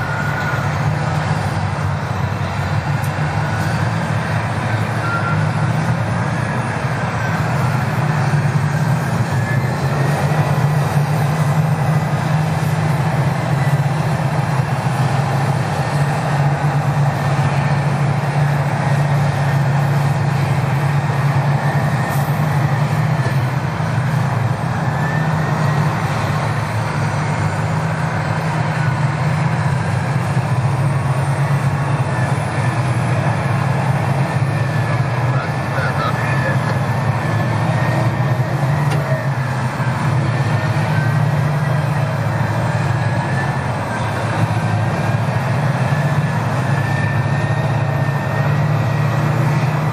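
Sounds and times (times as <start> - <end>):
heavy diesel engines droning: 0.0 - 49.9.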